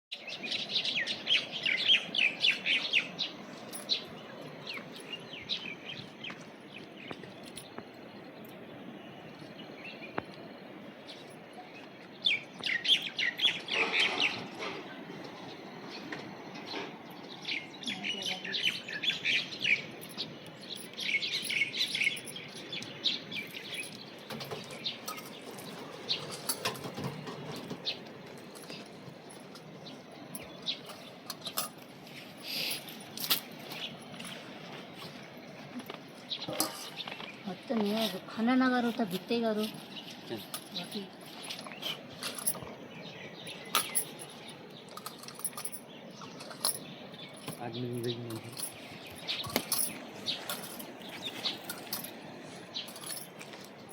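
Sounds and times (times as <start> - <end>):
small birds chirping: 0.1 - 53.9
low background noise: 0.2 - 53.9.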